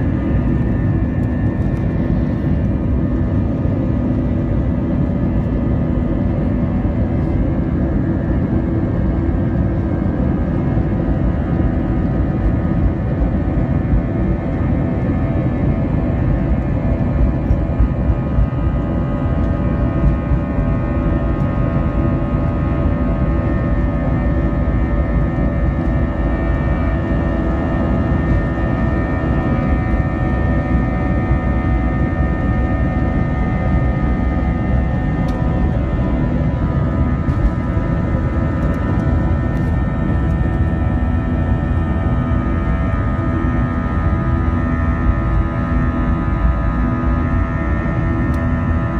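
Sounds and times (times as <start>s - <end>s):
heavy cabin rumble: 0.0s - 48.9s
jet engines whining: 0.0s - 48.9s.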